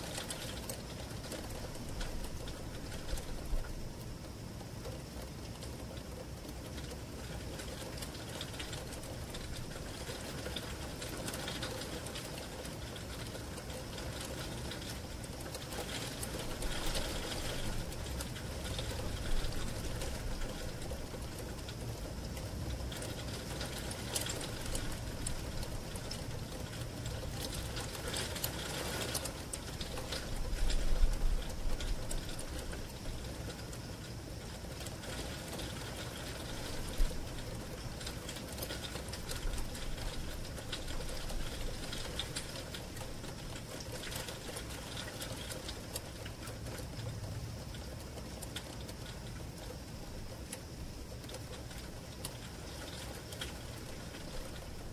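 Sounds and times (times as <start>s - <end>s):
heavy rain on a window: 0.0s - 54.9s.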